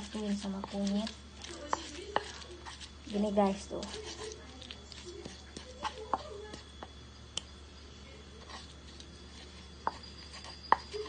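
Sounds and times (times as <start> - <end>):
stone pestle grinding in mortar: 0.0 - 6.9, 8.4 - 11.0.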